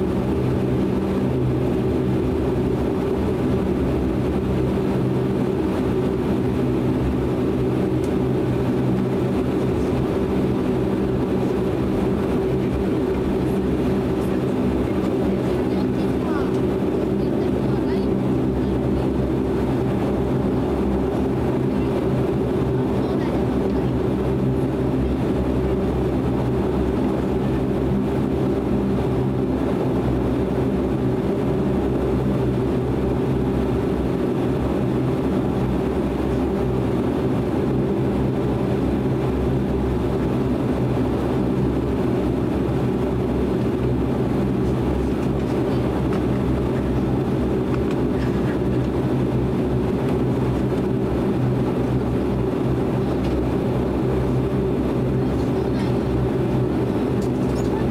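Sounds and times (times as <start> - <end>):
turboprop engines droning: 0.0 - 57.9.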